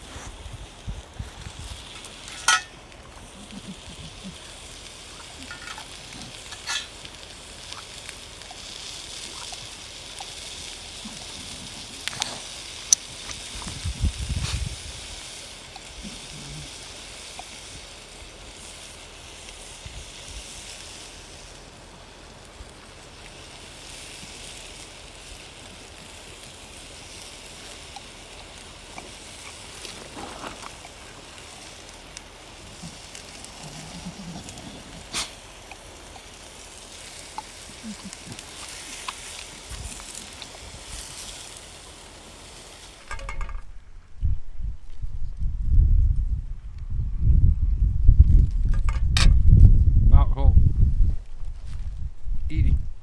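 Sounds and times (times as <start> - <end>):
bacon sizzling in a pan: 0.0 - 43.6.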